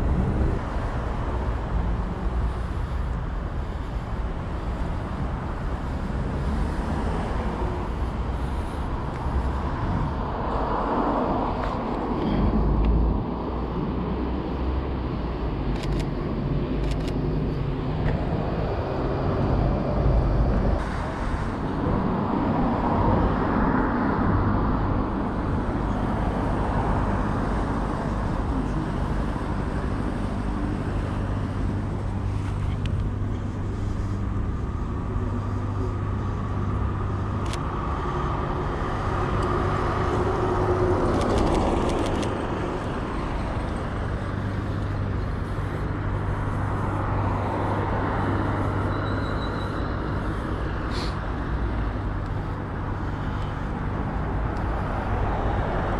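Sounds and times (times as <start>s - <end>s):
cars driving past: 0.0s - 55.9s.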